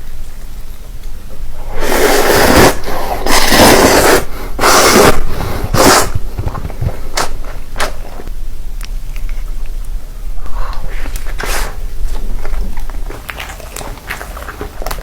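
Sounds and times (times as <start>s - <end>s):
loud crunching while eating: 1.8s - 10.0s, 10.7s - 15.0s.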